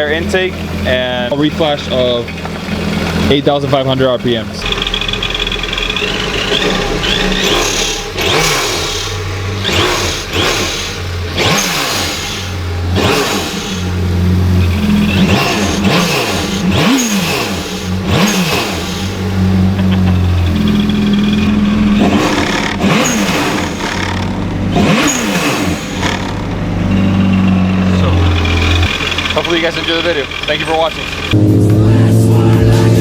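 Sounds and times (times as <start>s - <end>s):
jet ski engine revving: 0.0s - 33.0s.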